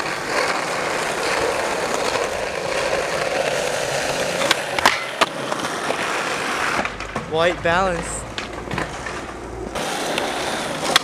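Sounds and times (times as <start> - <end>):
skateboard wooden clacks: 0.0 - 7.4, 8.0 - 11.0
skateboard wheels rolling on asphalt: 0.0 - 11.0.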